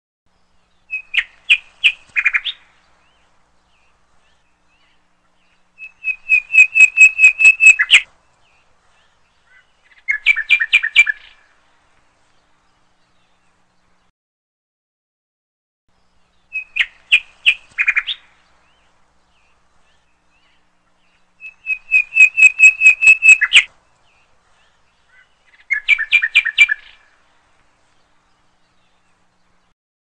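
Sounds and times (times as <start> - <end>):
bird chirping: 0.3 - 14.1, 15.9 - 29.7.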